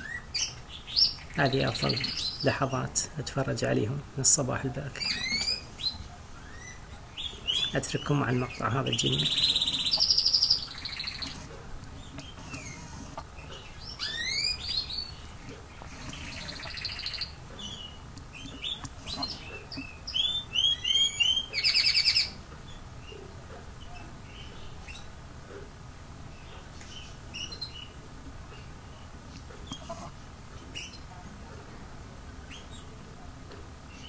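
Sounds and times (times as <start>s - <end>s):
small birds chirping: 0.0s - 31.2s, 32.4s - 33.1s.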